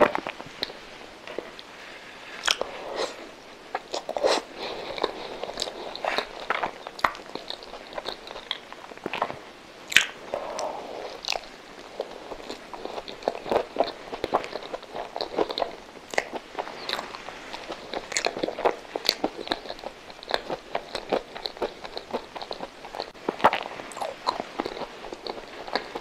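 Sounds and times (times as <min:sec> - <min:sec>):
person chewing with mouth clicks: 0:02.4 - 0:26.0.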